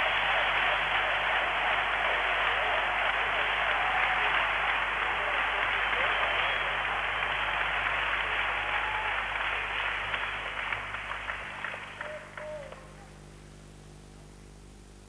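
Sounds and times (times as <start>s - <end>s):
crowd applauding: 0.0s - 13.2s.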